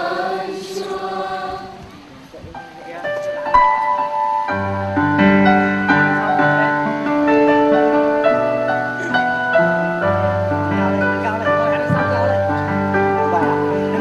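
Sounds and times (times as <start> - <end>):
keyboard playing held chords: 0.0 - 14.0.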